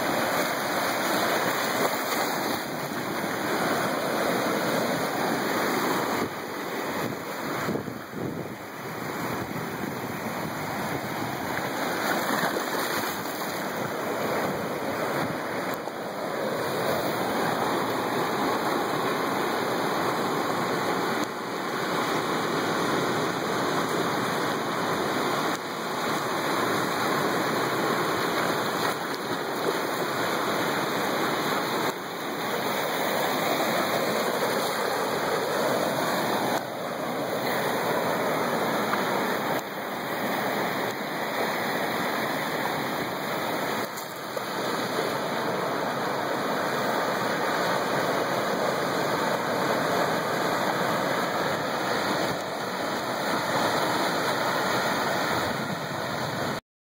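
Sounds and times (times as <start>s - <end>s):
ocean surf breaking: 0.0s - 56.6s.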